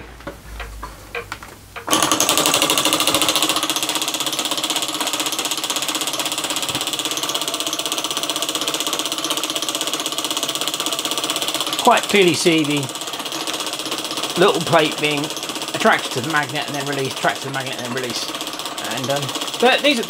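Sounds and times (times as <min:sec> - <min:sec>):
toy engine mechanical clatter: 0:01.9 - 0:20.0.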